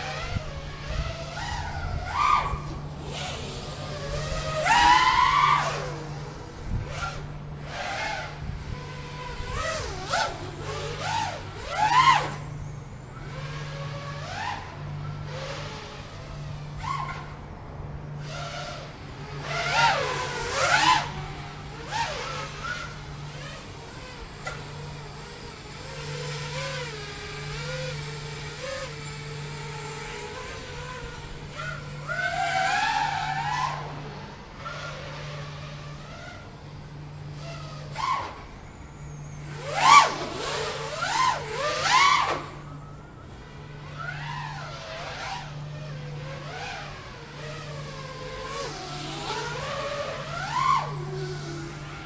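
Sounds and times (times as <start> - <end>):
quadcopter motors whining: 0.0 - 52.0.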